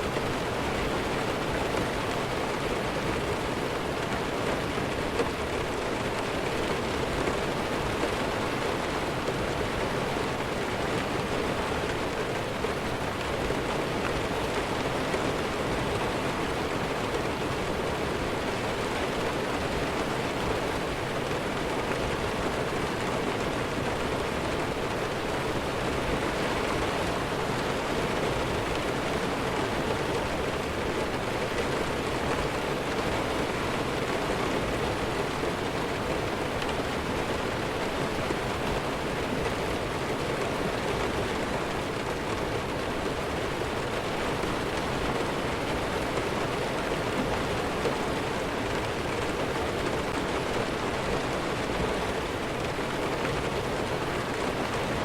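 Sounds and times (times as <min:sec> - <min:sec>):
heavy rainfall hiss: 0:00.0 - 0:55.0.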